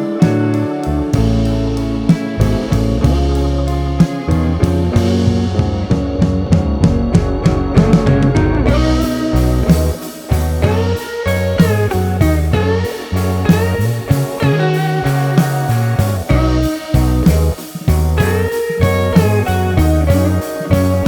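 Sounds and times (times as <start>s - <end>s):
slide guitar music with drums: 0.0s - 21.0s.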